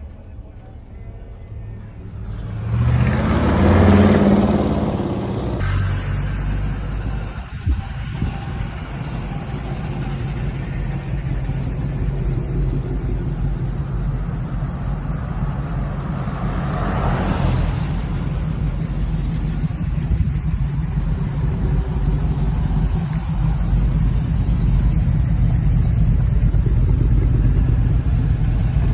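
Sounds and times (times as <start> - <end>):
car engine rumbling: 0.0 - 28.9.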